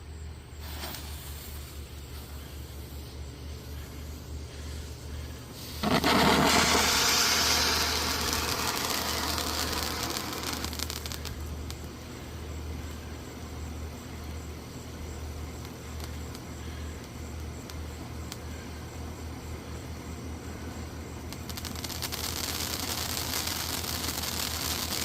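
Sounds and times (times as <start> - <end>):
firework fountain hissing: 0.5 - 18.6, 20.6 - 25.0.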